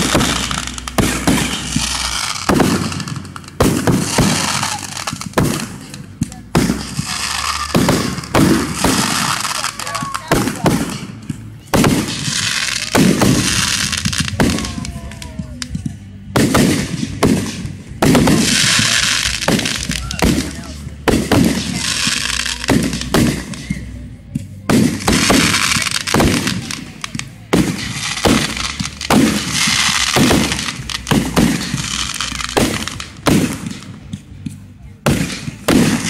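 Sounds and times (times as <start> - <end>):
rising firework hiss: 0.0 - 24.0, 24.8 - 34.0
fireworks bangs and bursts: 0.0 - 36.0.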